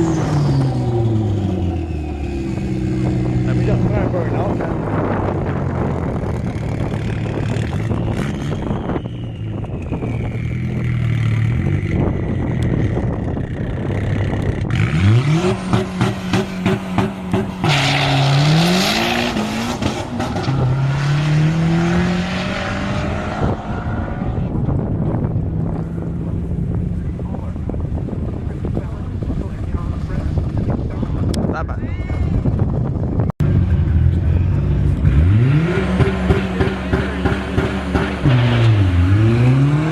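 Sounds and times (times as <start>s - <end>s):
car engine revving: 0.0s - 31.3s, 33.4s - 39.9s.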